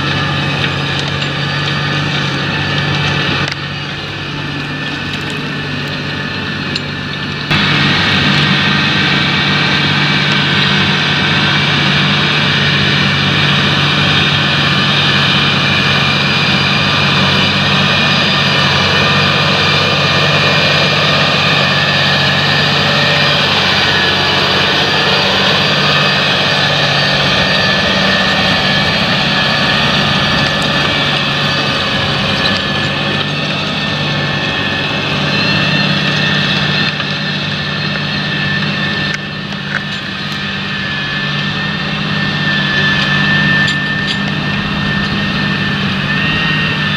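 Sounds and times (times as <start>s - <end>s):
tractor diesel engine under load: 0.0s - 46.9s
mechanical whine and hiss: 1.3s - 46.9s.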